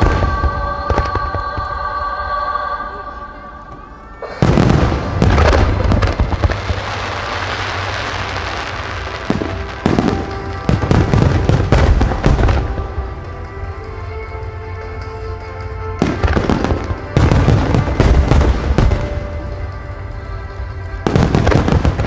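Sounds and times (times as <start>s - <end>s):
fireworks bursting: 0.0s - 2.2s, 4.2s - 14.0s, 16.0s - 22.0s
music playing: 0.0s - 22.0s.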